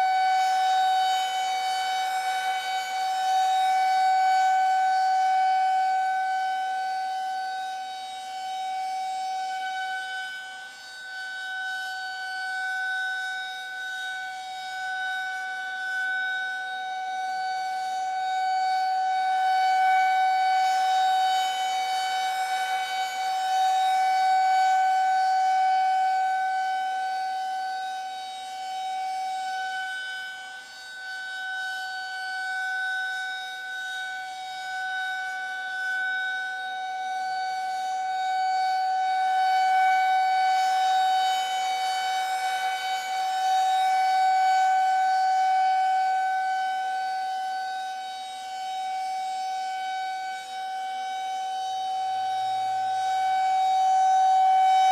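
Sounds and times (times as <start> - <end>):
air-raid siren steady tone: 0.0 - 54.9.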